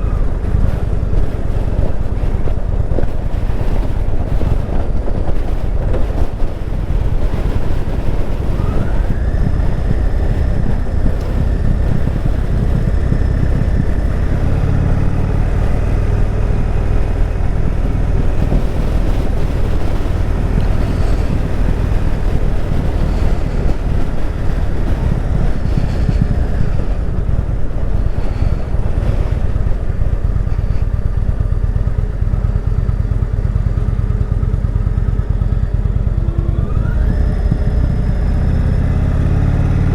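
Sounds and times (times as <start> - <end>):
motorcycle engine rumble: 0.0 - 39.9
wind noise on microphone: 0.0 - 39.9.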